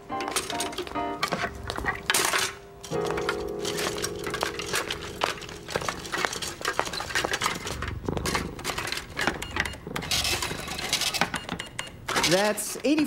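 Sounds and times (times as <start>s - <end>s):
tin cans clinking: 0.0s - 11.5s.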